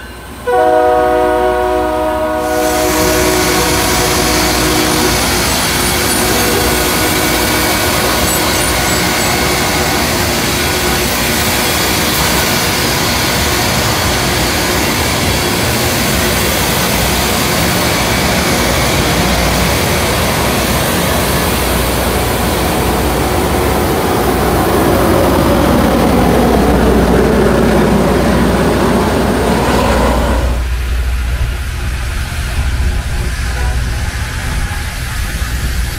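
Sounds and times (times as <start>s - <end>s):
rail grinder grinding: 2.4s - 35.9s.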